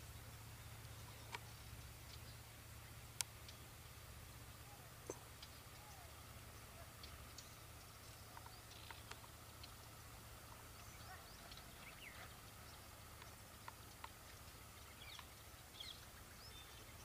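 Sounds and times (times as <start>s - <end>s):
faint bird chirps: 0.0s - 17.0s
low steady hum: 0.0s - 17.0s.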